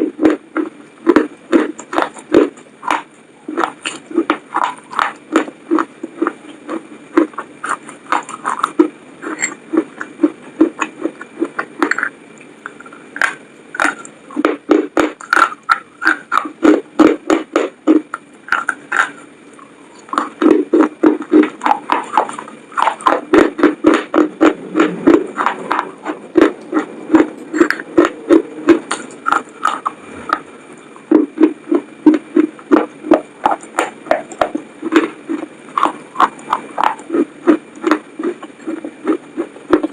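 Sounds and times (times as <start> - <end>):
wet chewing and mouth smacking: 0.0 - 39.9.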